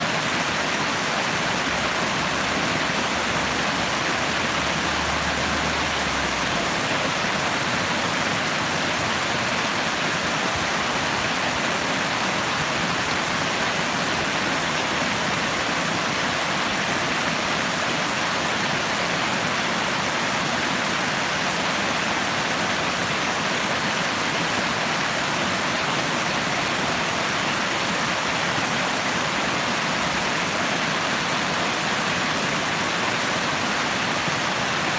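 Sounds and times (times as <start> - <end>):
rushing water: 0.0 - 34.9.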